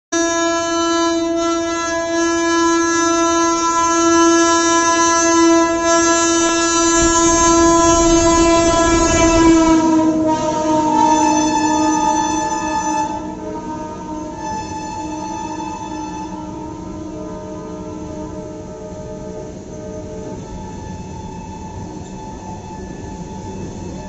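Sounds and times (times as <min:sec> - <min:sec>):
locomotive horn: 0:00.1 - 0:24.0
train wagons rumbling on rails: 0:00.2 - 0:24.0.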